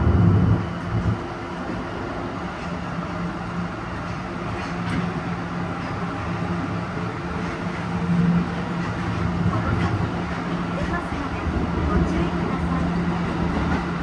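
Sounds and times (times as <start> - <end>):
subway train rumbling in tunnel: 0.0 - 14.0.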